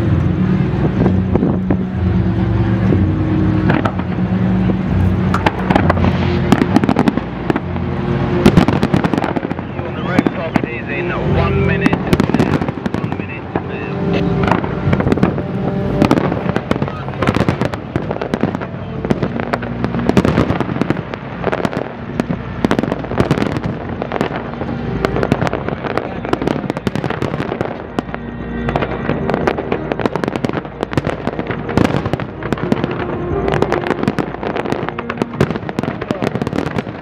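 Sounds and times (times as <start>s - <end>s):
fireworks bursting: 0.0s - 37.0s
music playing: 0.0s - 37.0s.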